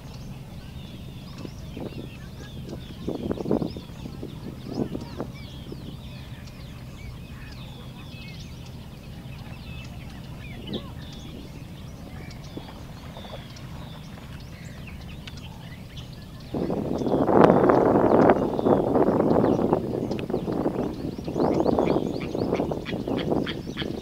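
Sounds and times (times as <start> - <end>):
low rumble: 0.0 - 24.0
small birds chirping: 0.0 - 24.0.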